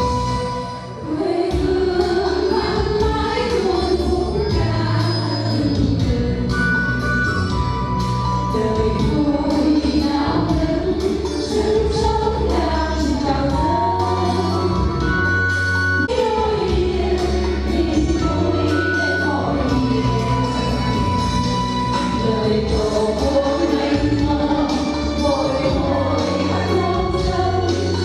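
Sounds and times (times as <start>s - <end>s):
group of voices singing: 0.0s - 7.2s, 8.5s - 15.3s, 16.0s - 28.0s
instrumental backing with beat: 0.0s - 28.0s.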